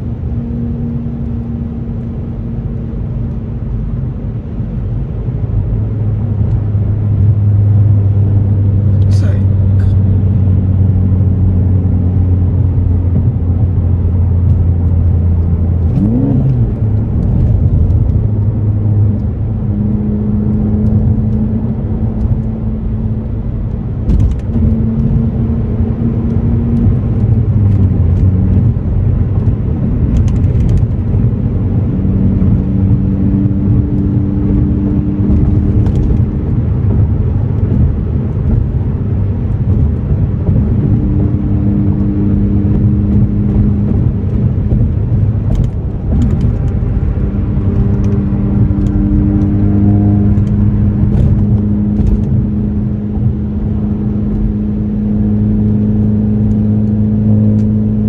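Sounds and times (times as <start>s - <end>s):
car engine revving: 6.2s - 58.0s.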